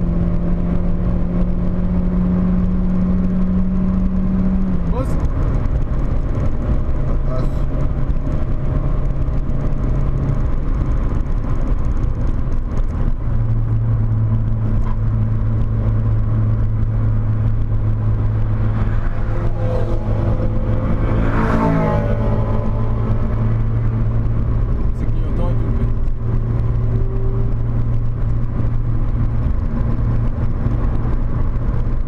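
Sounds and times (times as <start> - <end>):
car engine pulling at steady revs: 0.0 - 32.0.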